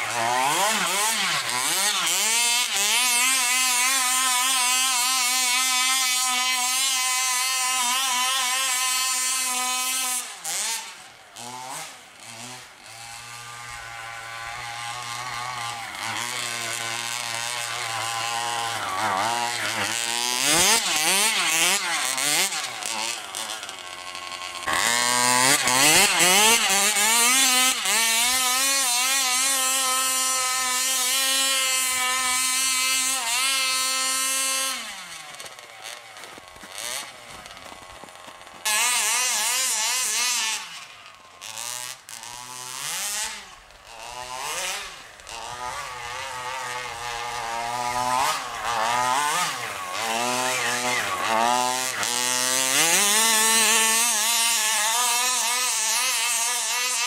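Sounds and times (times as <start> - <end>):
small two-stroke engine revving: 0.0 - 57.0.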